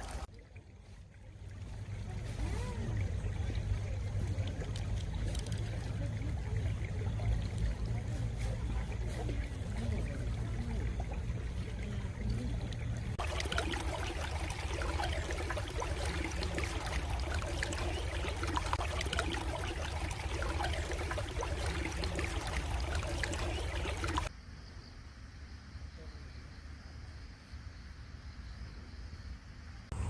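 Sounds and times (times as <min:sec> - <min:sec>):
stream trickling: 0:00.0 - 0:24.3.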